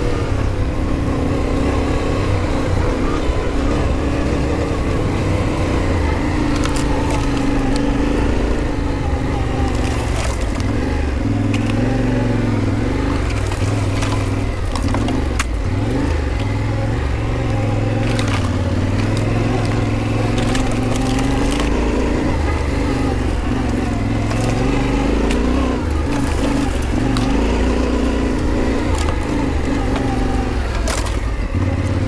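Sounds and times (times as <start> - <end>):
motorcycle engine running: 0.0 - 32.0
clicks and knocks from motorcycle: 4.6 - 32.0.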